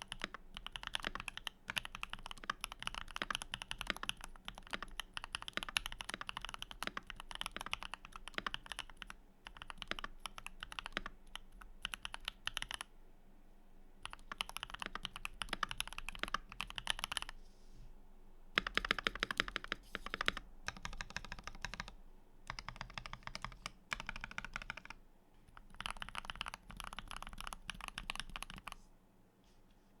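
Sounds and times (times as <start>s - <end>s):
mechanical keyboard typing: 0.0s - 12.9s, 14.0s - 17.4s, 18.6s - 28.8s.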